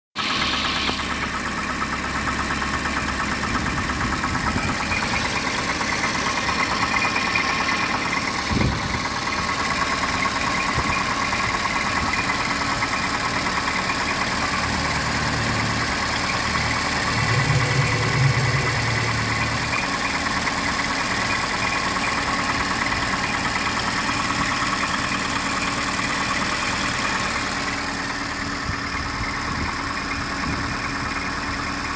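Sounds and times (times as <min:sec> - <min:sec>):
car engine idling with knocking: 0:00.2 - 0:31.9.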